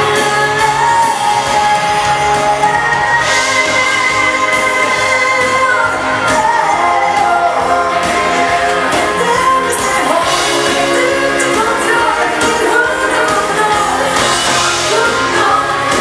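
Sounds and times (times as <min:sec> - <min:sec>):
dance band playing live: 0:00.0 - 0:16.0
person singing: 0:00.0 - 0:16.0.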